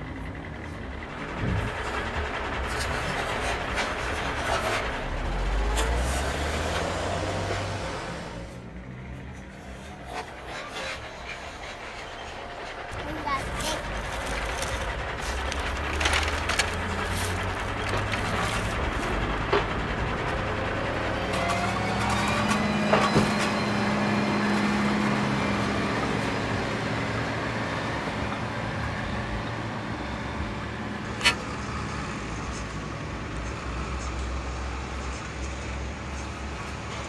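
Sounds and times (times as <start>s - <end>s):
motor vehicle rumble: 0.0s - 37.0s.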